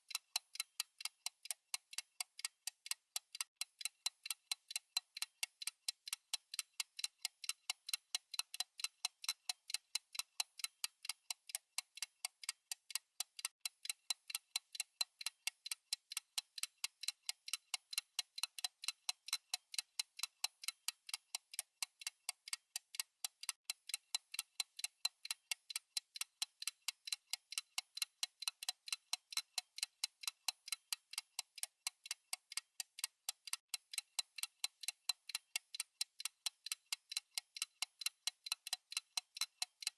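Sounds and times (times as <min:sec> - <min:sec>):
fast timer ticking: 0:00.0 - 0:39.9.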